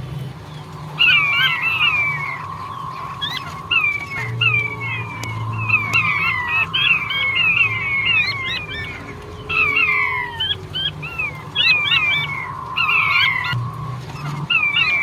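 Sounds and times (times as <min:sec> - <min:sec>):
quail calling in whistled notes: 0:00.5 - 0:15.0.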